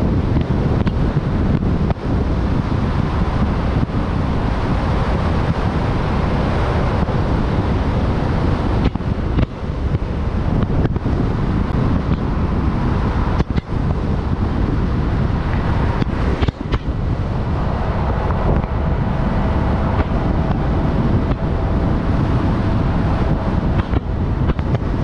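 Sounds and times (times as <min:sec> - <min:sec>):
vehicle road and engine noise: 0:00.0 - 0:25.0
wind rushing over microphone: 0:00.0 - 0:25.0.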